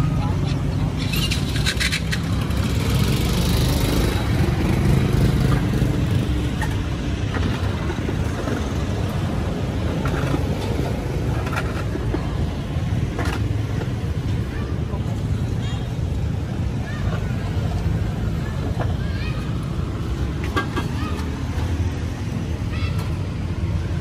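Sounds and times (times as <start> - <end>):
passing cars and motorbikes: 0.0 - 24.0.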